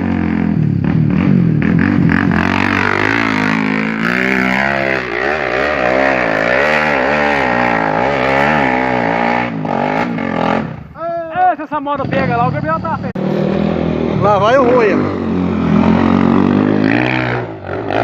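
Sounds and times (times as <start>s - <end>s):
dirt bike engine revving: 0.0s - 11.0s, 11.8s - 18.0s.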